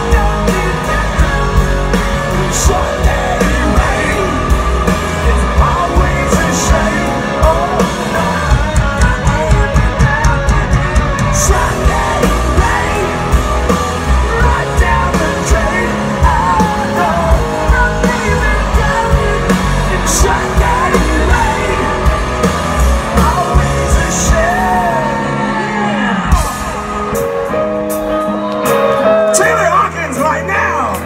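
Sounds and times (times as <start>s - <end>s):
person singing lead vocal: 0.0s - 31.0s
rock band playing live: 0.0s - 31.0s.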